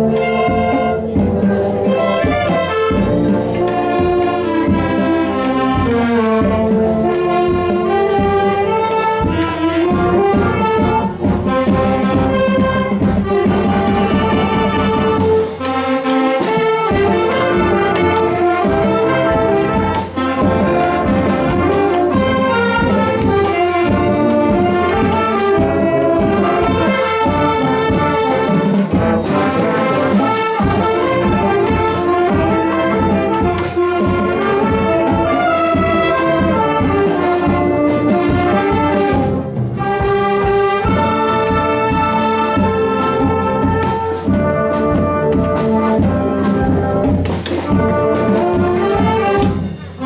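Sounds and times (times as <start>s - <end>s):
wind band playing: 0.0s - 50.0s.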